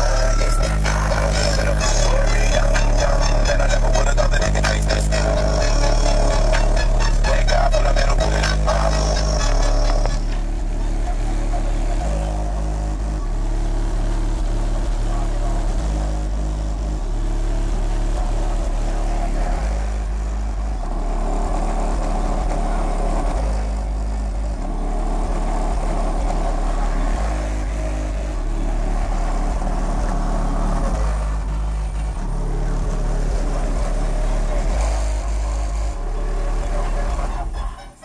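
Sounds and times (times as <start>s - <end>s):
bass-heavy music from car subwoofers: 0.0s - 38.0s.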